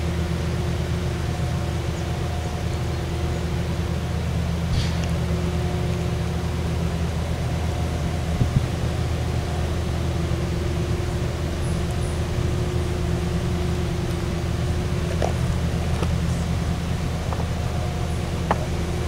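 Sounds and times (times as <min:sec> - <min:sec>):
constant droning hum: 0:00.0 - 0:19.0
low vehicle rumble: 0:00.0 - 0:19.0.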